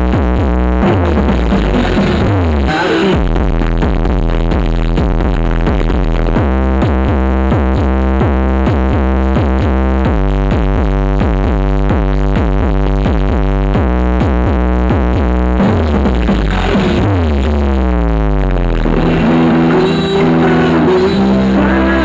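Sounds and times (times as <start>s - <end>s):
electronic dance music: 0.0s - 22.0s.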